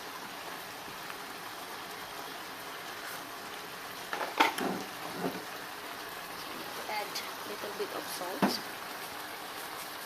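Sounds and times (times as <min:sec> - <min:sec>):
sauce bubbling in a pot: 0:00.0 - 0:10.0.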